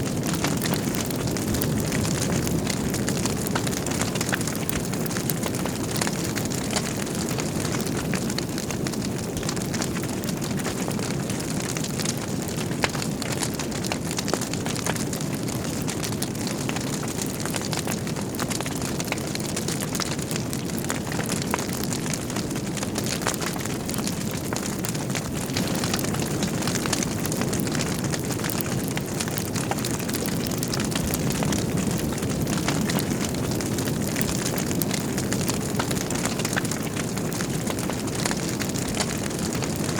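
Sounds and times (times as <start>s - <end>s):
fire crackling and popping: 0.0s - 39.9s
fire rushing: 0.0s - 39.9s.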